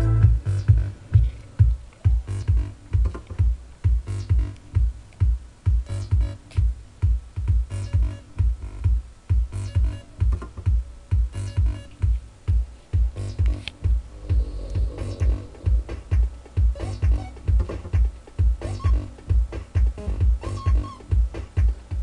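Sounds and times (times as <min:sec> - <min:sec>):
low thumping drum pulses: 0:00.0 - 0:22.0.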